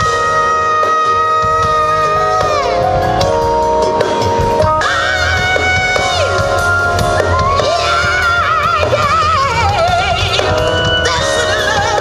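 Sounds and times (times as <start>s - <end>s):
person singing with vibrato: 0.0s - 3.7s, 4.8s - 12.0s
steady bass line: 0.0s - 12.0s.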